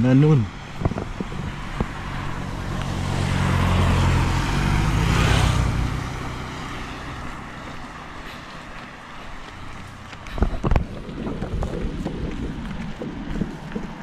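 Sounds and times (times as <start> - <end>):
car passing on wet road: 0.5 - 14.0.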